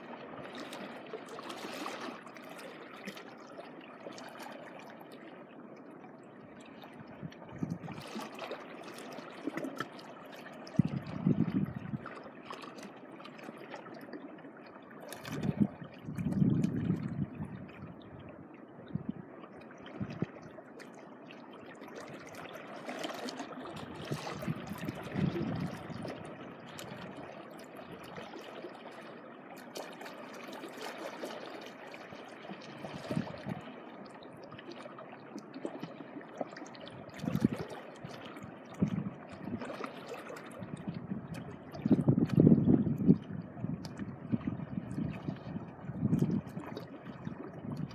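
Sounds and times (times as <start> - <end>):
small waves lapping at shore: 0.0 - 47.9.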